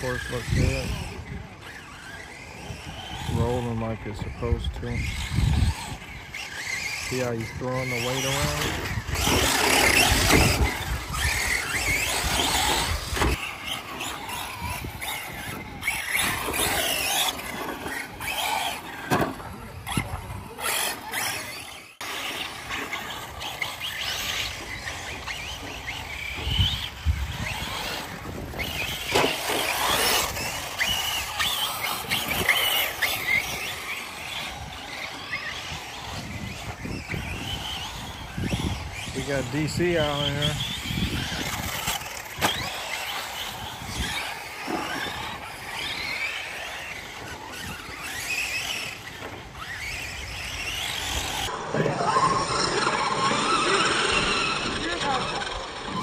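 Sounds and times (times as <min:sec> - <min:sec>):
electric toy car motor whine: 0:00.0 - 0:56.0
tyres on dirt: 0:00.0 - 0:56.0.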